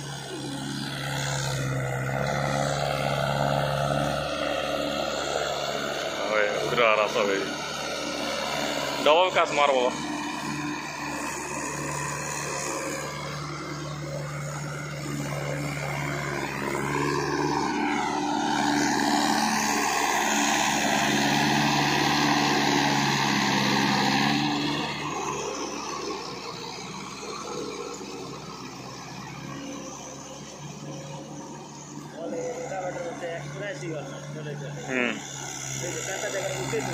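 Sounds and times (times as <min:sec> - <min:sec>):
rotavator churning wet mud: 0:00.0 - 0:32.7
tractor diesel engine under load: 0:00.0 - 0:36.9.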